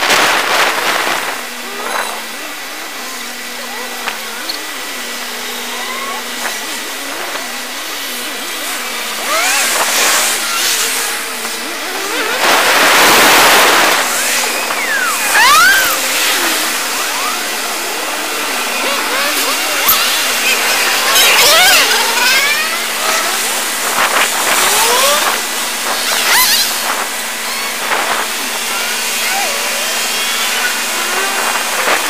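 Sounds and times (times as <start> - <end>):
road noise: 0.0 - 29.2
car engine: 0.0 - 32.0.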